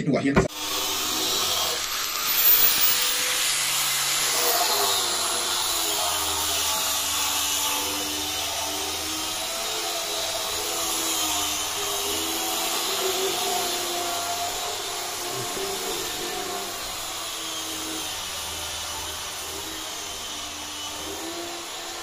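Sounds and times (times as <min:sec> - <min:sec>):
angle grinder sanding wood: 0:00.5 - 0:22.0.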